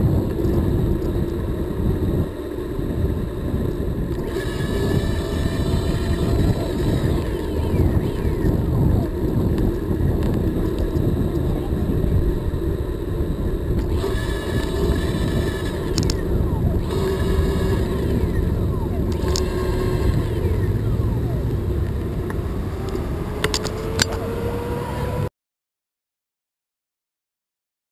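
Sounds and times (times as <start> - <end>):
city traffic passing: 0.0 - 25.3
road rumble: 0.0 - 25.3
wind buffeting microphone: 0.0 - 25.3.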